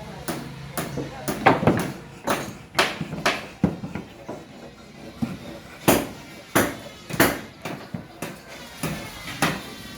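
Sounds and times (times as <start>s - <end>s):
hammer striking wood: 0.2s - 9.7s.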